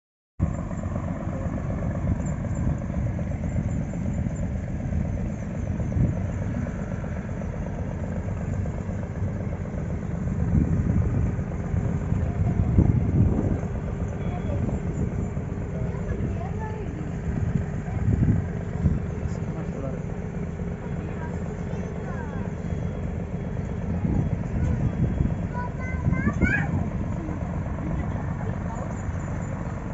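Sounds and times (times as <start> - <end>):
boat engine rumbling: 0.4 - 29.9.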